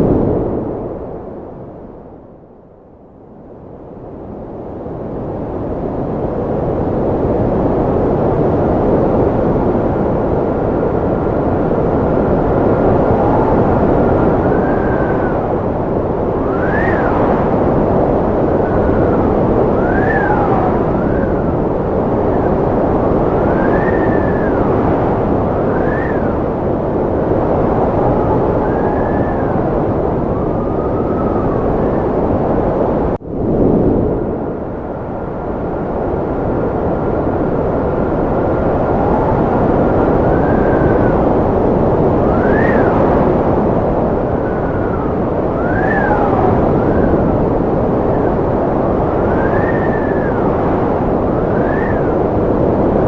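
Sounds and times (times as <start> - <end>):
faint whistling wind tones: 0.0 - 53.0
strong wind blowing: 0.0 - 53.0.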